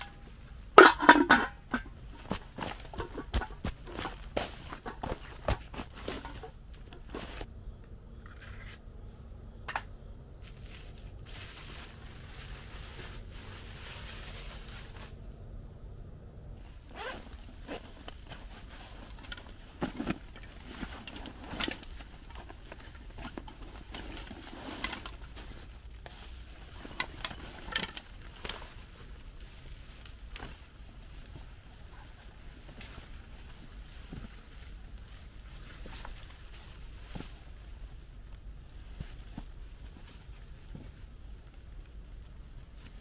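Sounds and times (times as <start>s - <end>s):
rustling and scraping handling noises: 0.0s - 7.5s, 8.2s - 9.8s, 10.4s - 15.2s, 16.6s - 43.0s
faint steady hum: 0.0s - 43.0s.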